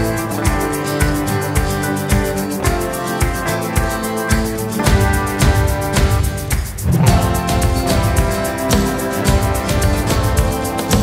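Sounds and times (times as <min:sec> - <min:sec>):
background music with steady beat: 0:00.0 - 0:11.0
plucked strings: 0:00.0 - 0:11.0.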